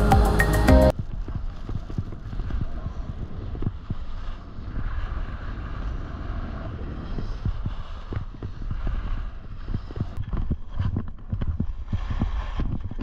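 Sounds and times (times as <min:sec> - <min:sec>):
wind buffeting microphone: 0:00.9 - 0:13.0
skis scraping on snow: 0:01.0 - 0:13.0.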